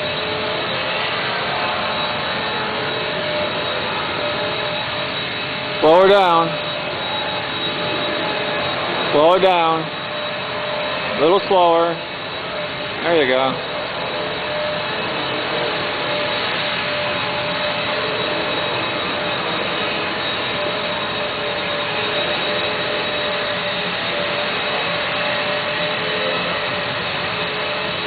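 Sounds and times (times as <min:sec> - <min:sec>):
model plane motor whining: 0:00.0 - 0:28.0.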